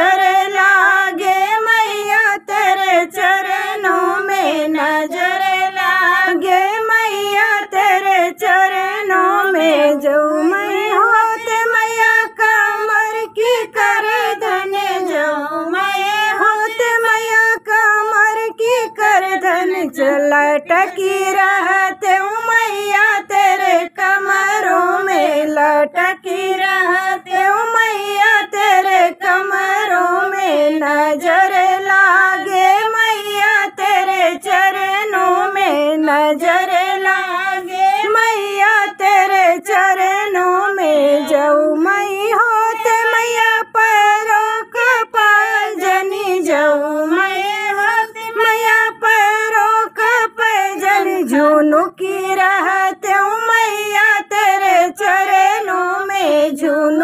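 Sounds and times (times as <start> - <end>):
woman singing devotional song: 0.0 - 57.0.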